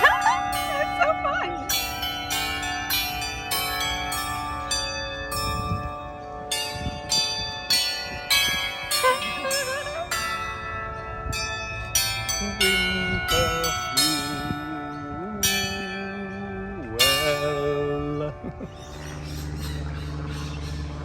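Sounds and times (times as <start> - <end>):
tuned bells ringing: 0.0 - 19.2.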